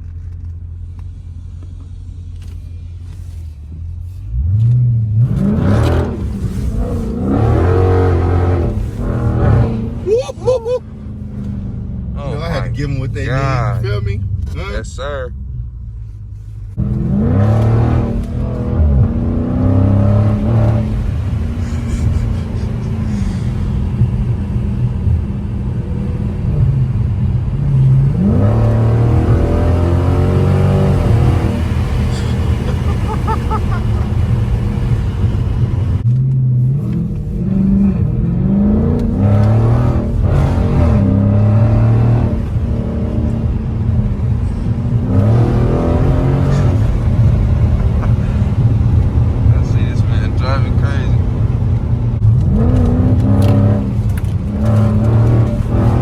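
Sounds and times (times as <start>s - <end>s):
loud car engine revving: 4.3s - 10.2s, 16.8s - 56.0s.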